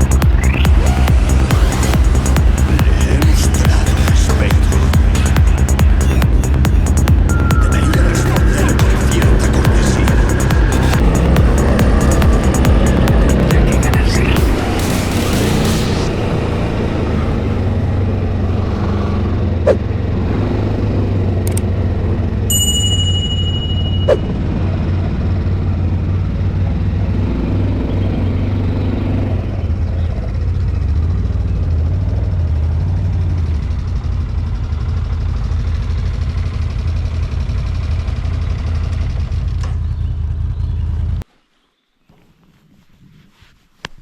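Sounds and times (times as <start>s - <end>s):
quad bike engine droning: 0.0s - 41.2s.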